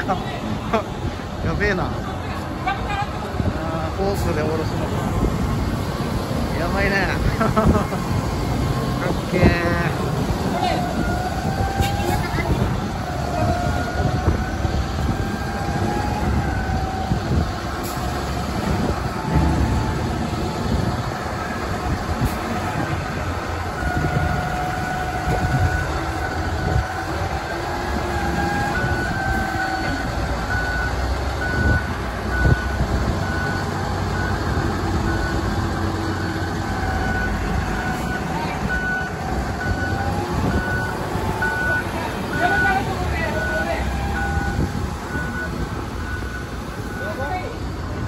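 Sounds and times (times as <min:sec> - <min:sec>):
diesel forklift engine running: 0:00.0 - 0:48.0
reversing alarm beeping: 0:06.6 - 0:48.0.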